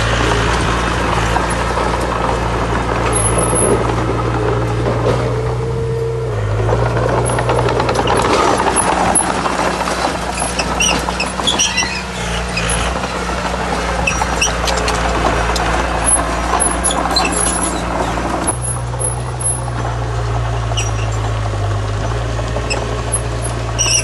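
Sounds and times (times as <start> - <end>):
rattling clatter: 0.0 - 5.7, 6.4 - 24.0
diesel engine running: 0.0 - 24.0.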